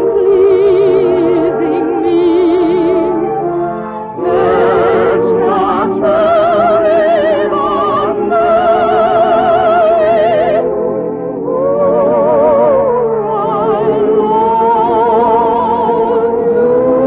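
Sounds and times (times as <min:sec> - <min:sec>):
musical accompaniment: 0:00.0 - 0:17.0
operatic singing with vibrato: 0:00.0 - 0:17.0.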